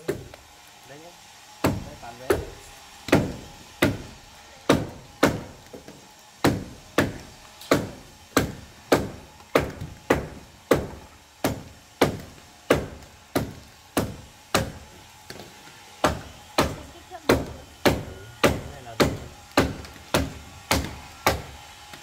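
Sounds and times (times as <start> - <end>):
hand tool striking wood: 0.0 - 0.4, 1.6 - 22.0.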